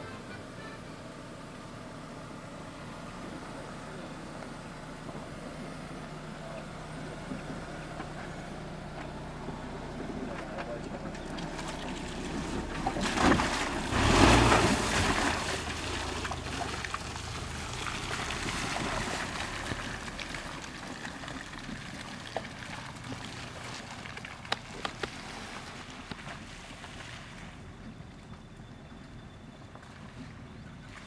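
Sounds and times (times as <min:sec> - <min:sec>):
car engine: 0:00.0 - 0:29.6
tyres splashing through puddle: 0:01.6 - 0:28.3.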